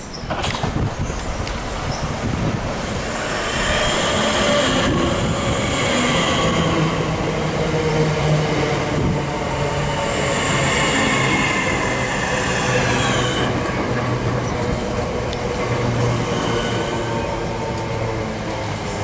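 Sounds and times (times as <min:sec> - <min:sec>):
train wheel and rail rumble: 0:00.0 - 0:19.0
train whining tones: 0:02.7 - 0:19.0.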